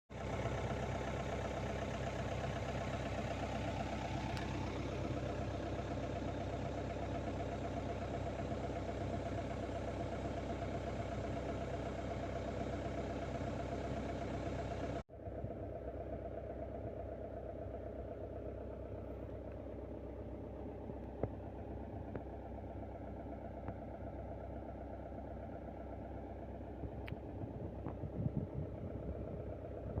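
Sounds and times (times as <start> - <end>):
excavator engine running: 0.1 - 30.0.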